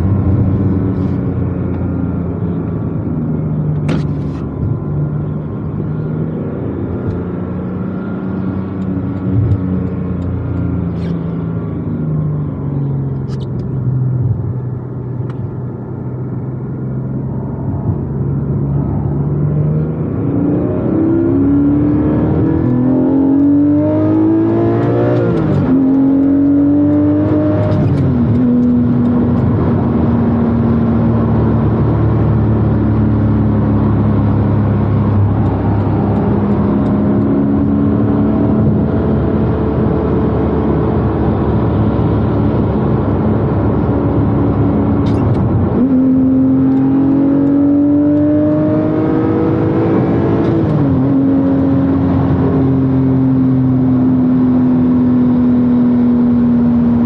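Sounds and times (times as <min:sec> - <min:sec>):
car engine from inside cabin: 0:00.0 - 0:57.0.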